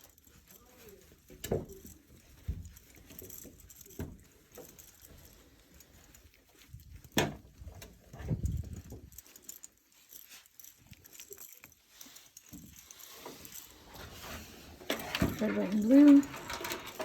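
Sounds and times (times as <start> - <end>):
puppies scuffling: 0.0 - 17.0.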